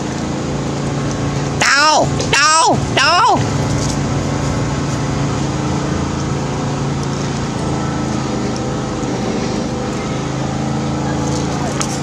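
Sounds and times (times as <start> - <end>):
engine running: 0.0 - 12.0
outdoor noise: 0.0 - 12.0.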